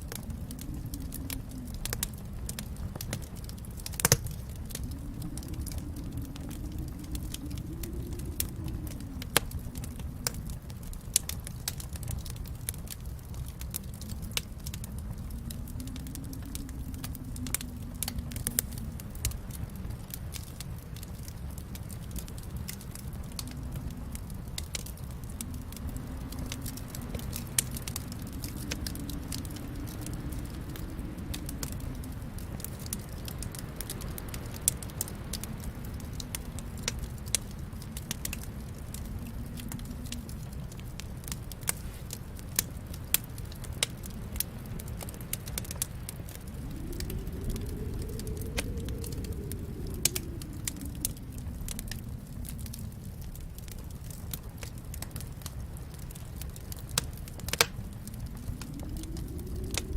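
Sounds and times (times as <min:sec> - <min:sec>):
wood fire crackling: 0:00.0 - 0:59.9
sharp pops and snaps: 0:00.1 - 0:10.6, 0:11.2 - 0:59.9.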